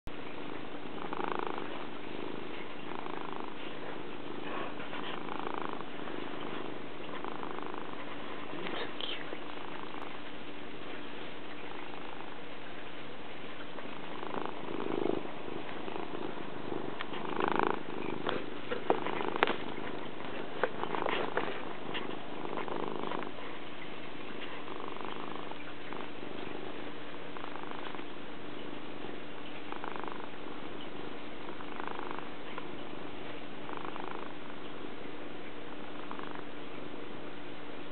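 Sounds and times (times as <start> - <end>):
cat purring: 0.1 - 37.9.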